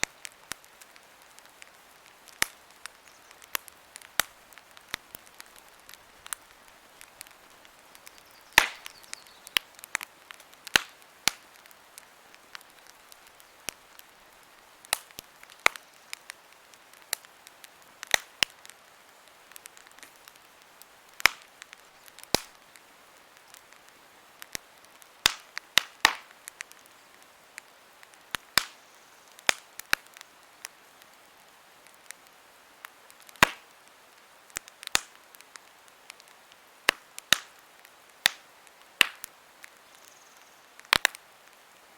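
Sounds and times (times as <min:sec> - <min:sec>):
campfire crackling and popping: 0:00.0 - 0:41.9
faint hiss of fire: 0:00.0 - 0:41.9.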